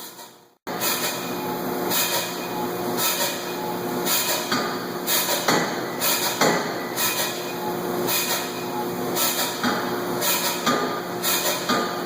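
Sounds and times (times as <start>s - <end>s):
machinery humming: 0.7s - 12.0s.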